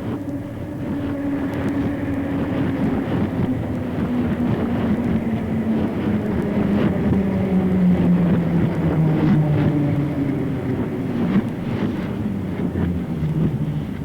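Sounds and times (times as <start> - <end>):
vehicle running hum: 0.0 - 14.0.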